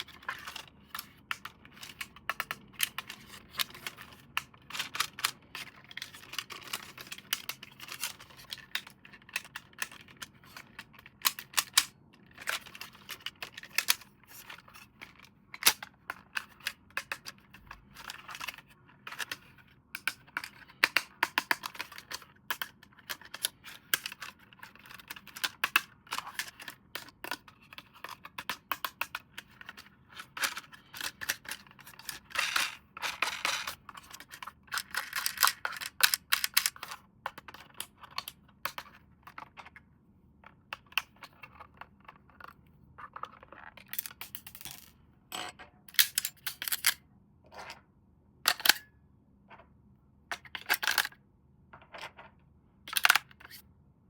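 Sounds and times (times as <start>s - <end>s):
toy and packaging handled: 0.0s - 45.0s, 45.8s - 47.0s.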